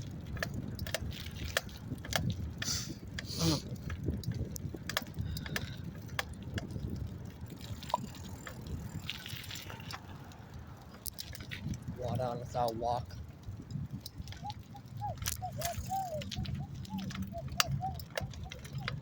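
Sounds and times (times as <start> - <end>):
bicycle tyres rumbling: 0.0 - 19.0
bike clicks and rattles: 0.0 - 19.0
wind on microphone: 0.0 - 19.0.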